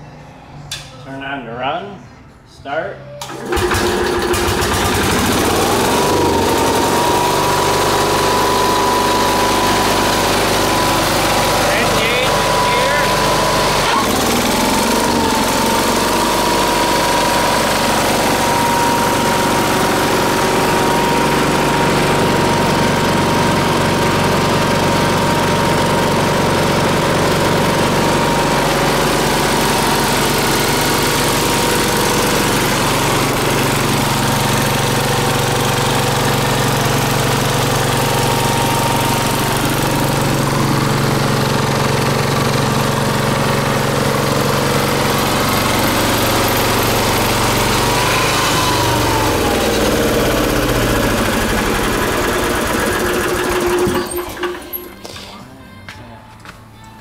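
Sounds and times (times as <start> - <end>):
air compressor engine running: 3.2 - 55.5.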